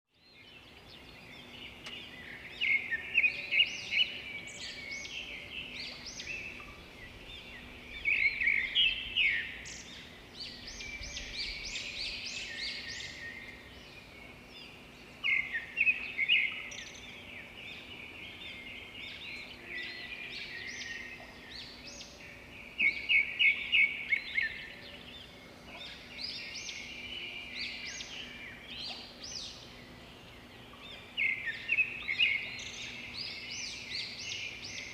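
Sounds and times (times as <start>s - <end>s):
songbirds singing and chirping: 0.1s - 34.9s.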